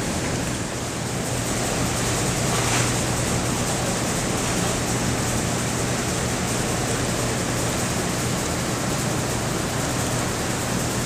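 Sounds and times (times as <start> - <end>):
engine whirring hiss: 0.0 - 11.0.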